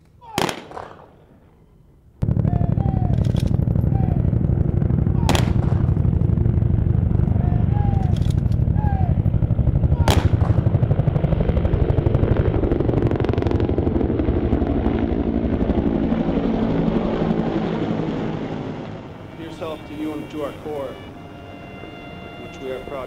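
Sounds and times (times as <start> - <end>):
helicopter rotors beating: 2.2 - 23.0.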